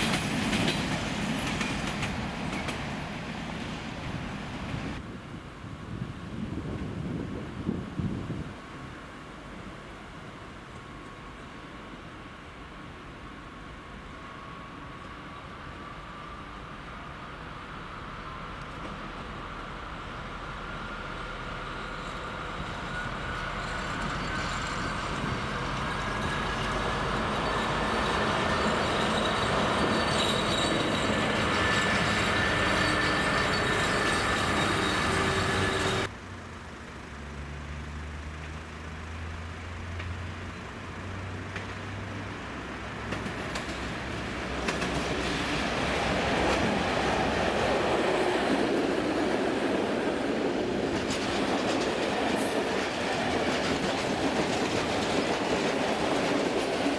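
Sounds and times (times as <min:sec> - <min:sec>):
train running past: 0:00.0 - 0:36.4, 0:37.1 - 0:56.9.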